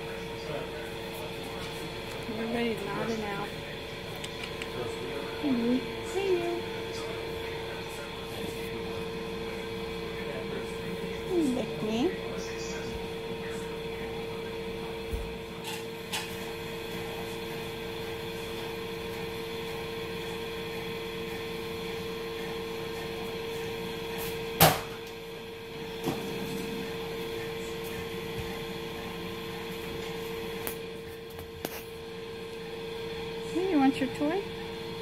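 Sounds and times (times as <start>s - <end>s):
steady mechanical hum: 0.0s - 35.0s.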